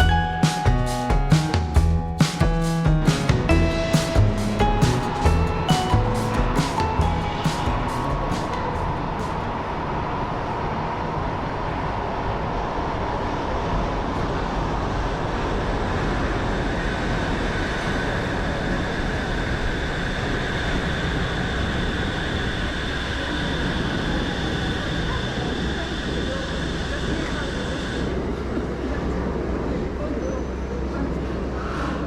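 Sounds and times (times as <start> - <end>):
monorail car hum and hiss: 3.4 - 32.0.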